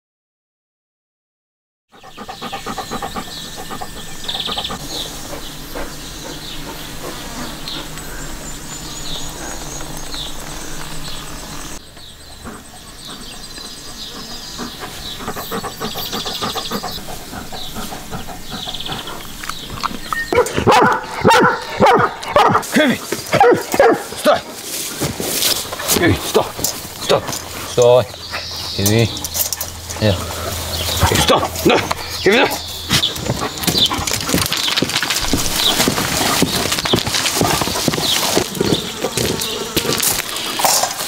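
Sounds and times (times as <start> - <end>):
birds chirping: 1.9 - 41.0.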